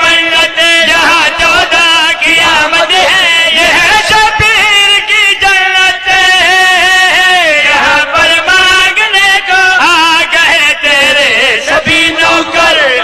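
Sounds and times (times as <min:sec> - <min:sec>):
solo voice singing devotional song: 0:00.0 - 0:13.0.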